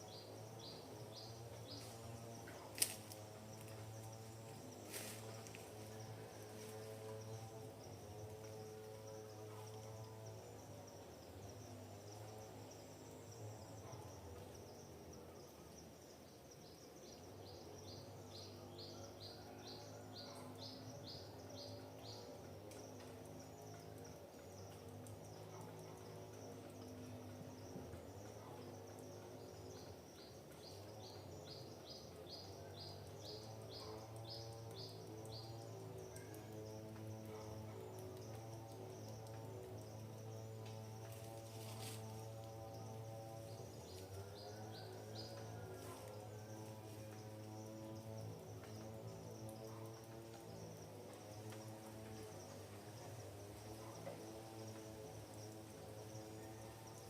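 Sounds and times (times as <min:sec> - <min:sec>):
faint low hum: 0:00.0 - 0:57.0
high insect trill: 0:00.0 - 0:57.0.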